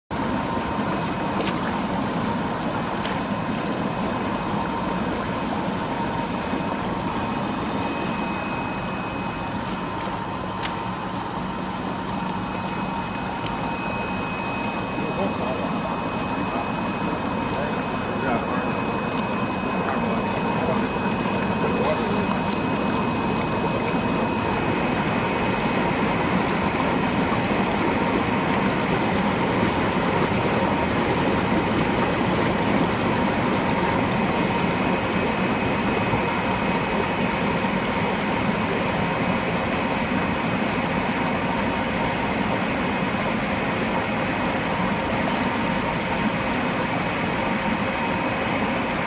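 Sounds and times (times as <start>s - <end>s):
churning water rushing: 0.1s - 49.0s
constant motor hum: 0.1s - 49.0s.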